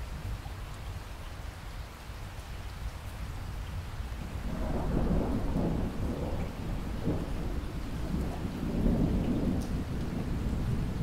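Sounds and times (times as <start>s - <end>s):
heavy rain splashing on water: 0.0s - 11.0s.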